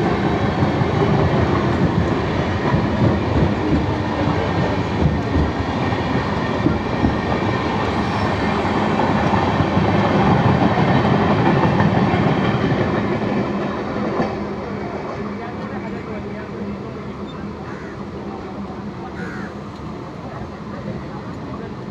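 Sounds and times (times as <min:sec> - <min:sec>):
train passing alongside: 0:00.0 - 0:21.9
train wheels rumbling on rails: 0:00.0 - 0:21.9.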